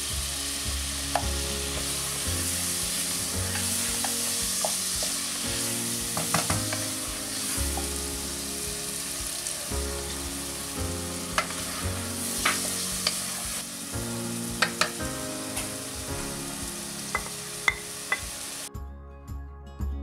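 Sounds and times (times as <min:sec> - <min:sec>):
food sizzling in a pot: 0:00.0 - 0:18.7
soft acoustic instrumental music: 0:00.0 - 0:20.0.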